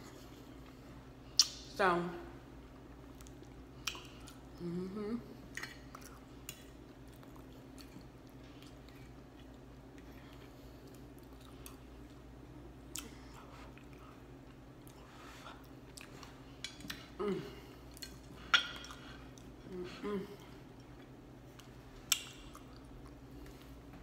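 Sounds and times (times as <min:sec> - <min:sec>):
person chewing: 0:03.0 - 0:04.6, 0:05.4 - 0:19.8, 0:20.4 - 0:24.0.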